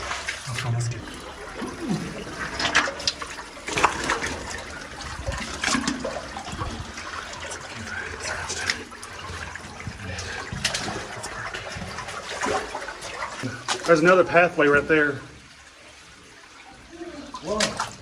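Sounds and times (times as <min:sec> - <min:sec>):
splashes and knocks of wading: 0:00.0 - 0:18.0
water running and splashing: 0:00.0 - 0:18.0.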